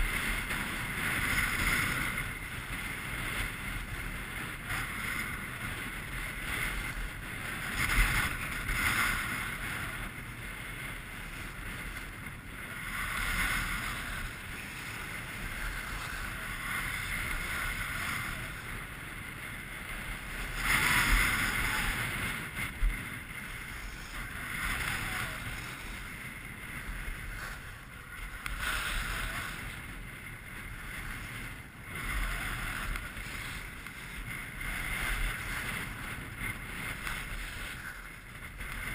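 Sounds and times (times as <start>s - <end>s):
skis scraping across snow: 0.0s - 38.9s
wind rumbling on microphone: 0.0s - 38.9s.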